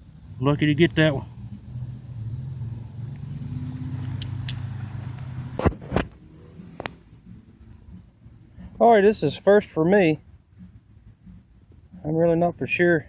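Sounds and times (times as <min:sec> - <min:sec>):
vehicle engine running: 0:00.0 - 0:12.3.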